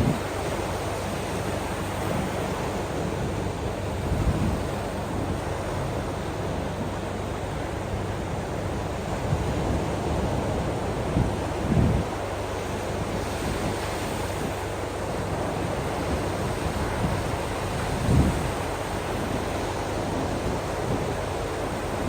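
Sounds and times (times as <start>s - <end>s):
wind buffeting microphone: 0.0s - 6.8s, 7.9s - 14.9s, 15.6s - 22.0s
ocean waves washing on shore: 0.0s - 22.0s.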